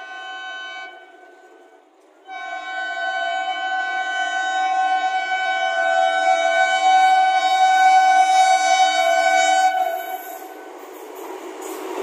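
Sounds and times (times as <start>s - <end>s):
locomotive horn blast: 0.0s - 10.8s
train rumbling and rattling on rails: 0.0s - 12.0s.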